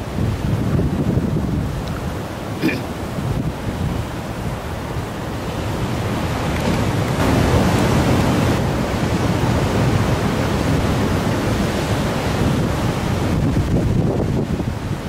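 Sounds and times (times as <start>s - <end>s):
heavy surf breaking: 0.0s - 15.0s
wind buffeting microphone: 0.0s - 15.0s.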